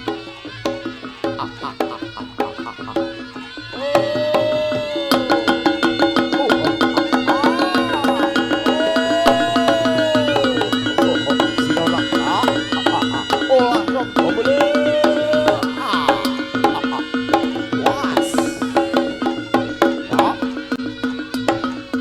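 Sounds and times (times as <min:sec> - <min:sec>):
drums and gong-chimes playing: 0:00.0 - 0:22.0.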